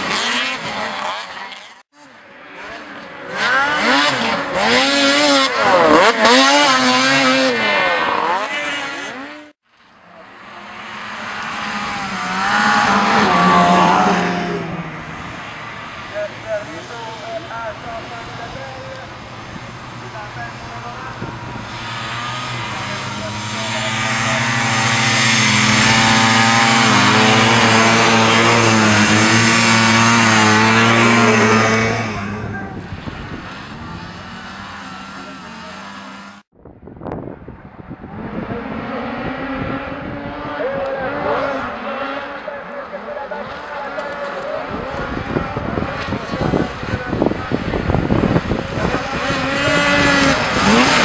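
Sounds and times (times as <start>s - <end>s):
snowmobile engine revving: 0.0s - 9.6s, 10.3s - 36.5s, 38.1s - 51.0s.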